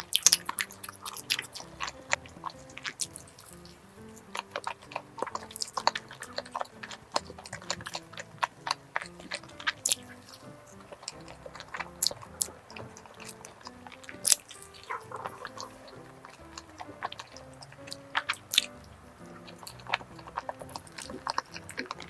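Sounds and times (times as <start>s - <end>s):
chewing and biting cake: 0.0s - 22.0s
mouth clicks: 0.0s - 22.0s
soft background music: 0.0s - 22.0s.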